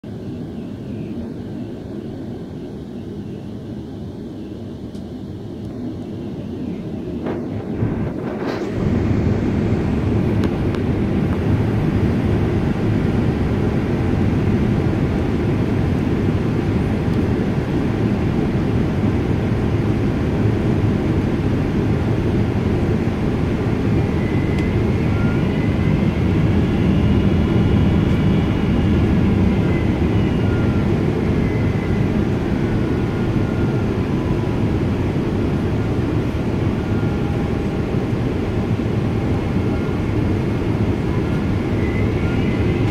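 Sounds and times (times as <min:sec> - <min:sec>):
jet engine whine: 0:00.0 - 0:42.9
jet engines rumbling: 0:00.0 - 0:42.9.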